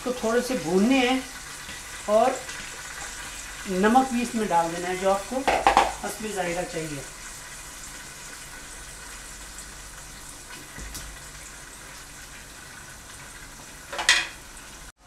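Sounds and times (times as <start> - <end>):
rice sizzling in hot oil: 0.0 - 15.0.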